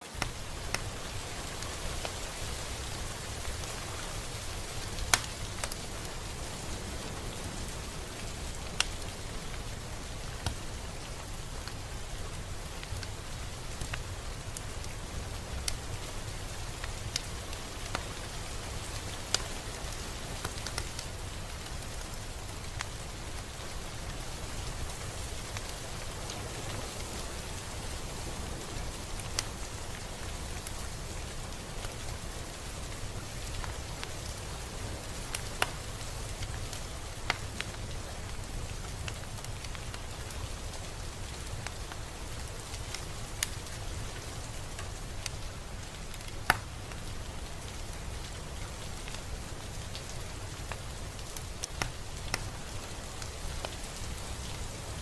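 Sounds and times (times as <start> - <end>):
raindrops ticking close by: 0.0 - 55.0
steady rain falling: 0.0 - 55.0.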